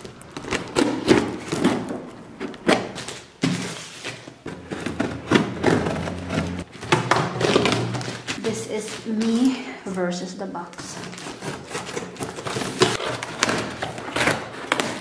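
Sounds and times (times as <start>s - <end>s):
packing tape tearing: 0.0s - 9.5s, 10.7s - 15.0s.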